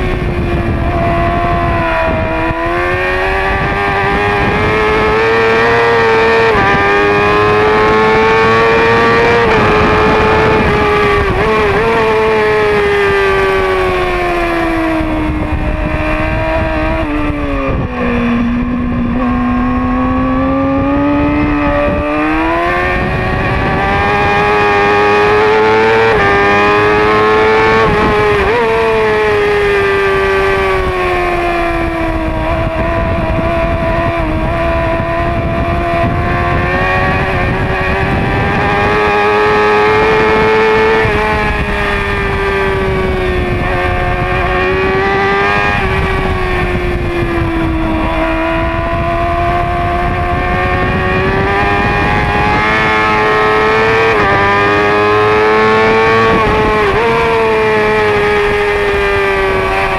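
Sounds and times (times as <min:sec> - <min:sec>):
race motorcycle engine high revs: 0:00.0 - 0:59.9.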